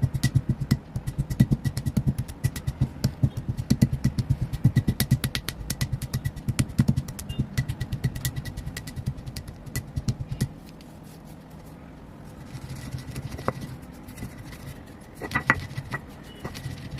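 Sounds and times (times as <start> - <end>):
chalk being crushed: 0.2 - 16.9.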